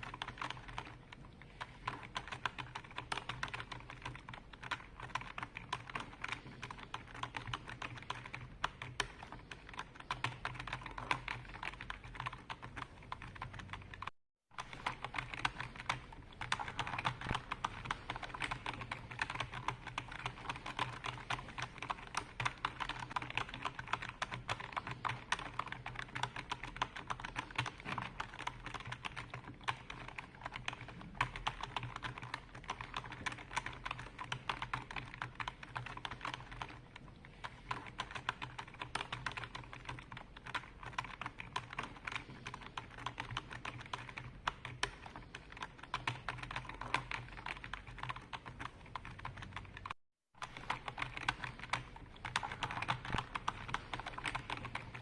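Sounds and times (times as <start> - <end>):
typing on a keyboard: 0.0 - 55.0.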